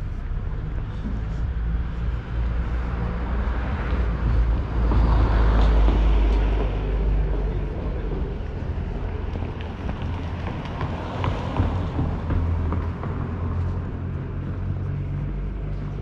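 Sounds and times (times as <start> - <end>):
steady low rumble: 0.0 - 16.0
vehicle passing: 0.0 - 16.0.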